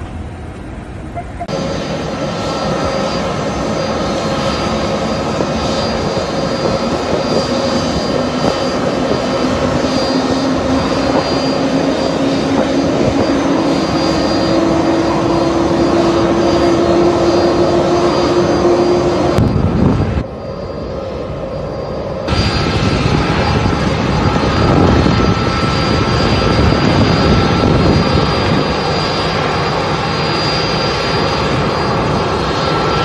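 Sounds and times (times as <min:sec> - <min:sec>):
aircraft turbine engine running: 0:00.0 - 0:33.0.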